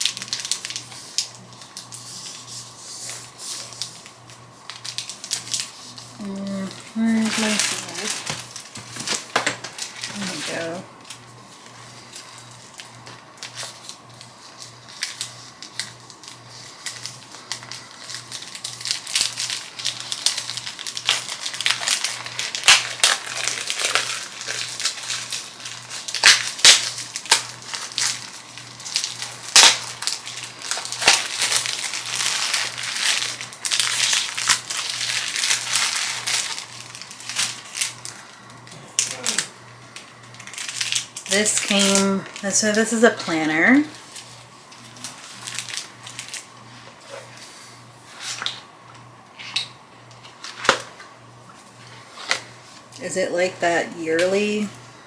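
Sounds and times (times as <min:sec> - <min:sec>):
packaging crinkling: 0:00.0 - 0:47.4.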